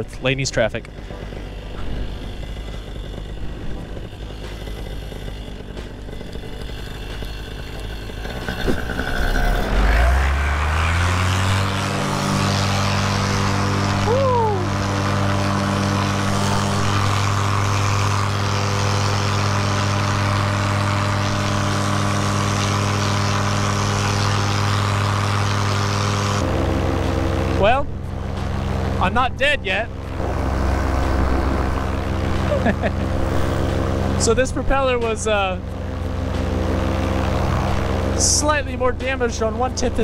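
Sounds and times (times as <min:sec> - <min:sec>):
paramotor engine revving: 0:00.0 - 0:40.0.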